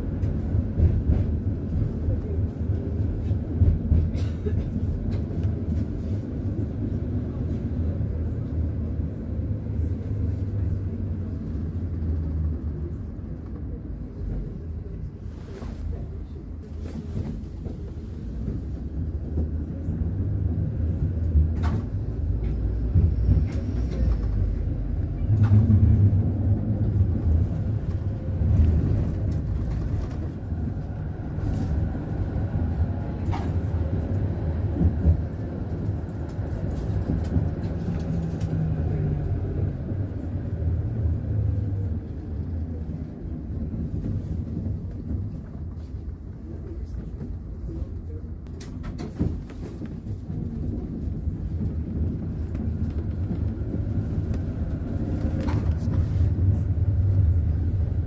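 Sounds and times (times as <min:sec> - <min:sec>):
tram motor rumble: 0:00.0 - 0:58.0.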